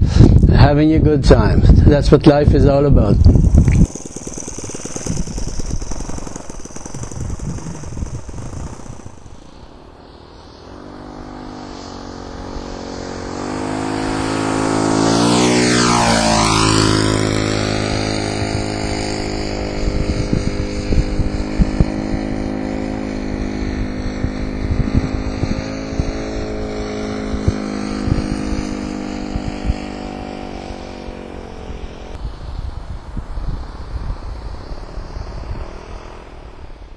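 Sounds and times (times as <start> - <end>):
model airplane engine droning: 1.2 - 36.9.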